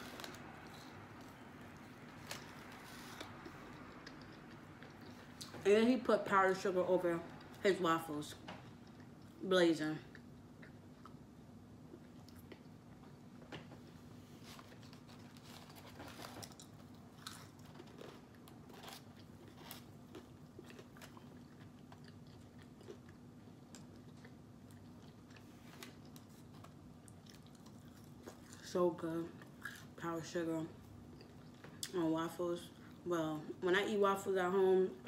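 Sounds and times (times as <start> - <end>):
chewing and crunching food: 0.0 - 5.7, 6.5 - 33.1
low steady hum: 0.0 - 35.0.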